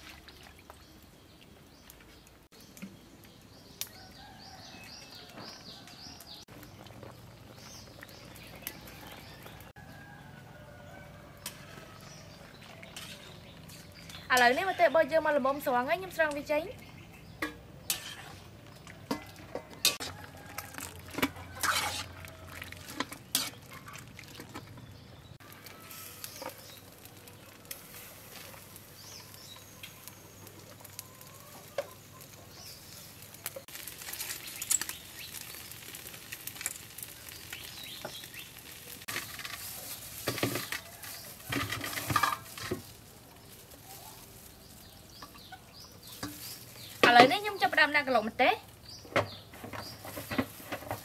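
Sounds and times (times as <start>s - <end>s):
fish sizzling on grill: 0.0s - 51.0s
birds chirping: 0.2s - 20.5s, 23.1s - 27.6s, 28.2s - 39.1s, 42.2s - 51.0s.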